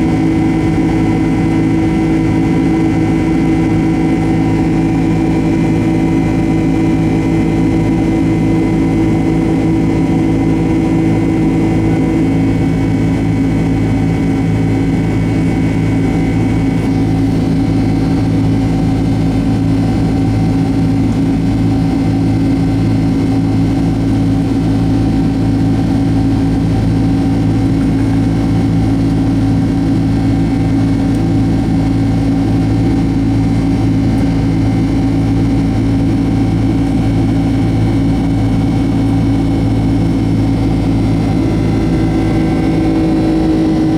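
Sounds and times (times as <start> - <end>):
jet engines droning: 0.0 - 43.9.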